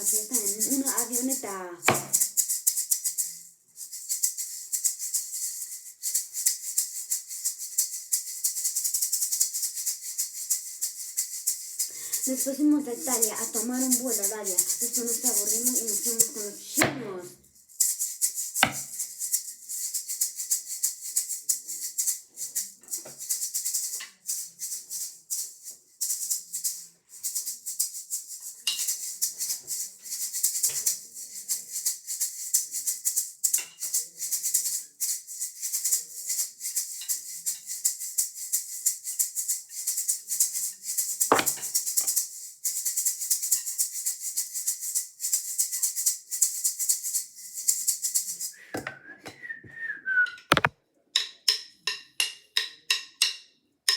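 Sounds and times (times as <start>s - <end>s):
maraca-like shaking: 0.0s - 49.2s, 50.4s - 50.7s.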